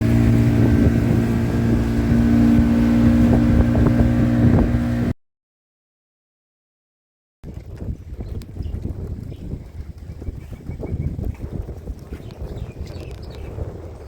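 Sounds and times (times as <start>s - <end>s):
outboard motor running: 0.0s - 5.1s, 7.5s - 14.0s.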